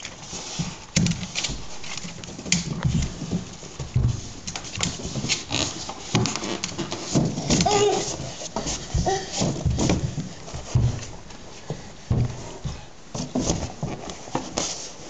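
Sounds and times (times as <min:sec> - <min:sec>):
taps on hardwood floor: 0:01.0 - 0:08.0, 0:08.6 - 0:14.0.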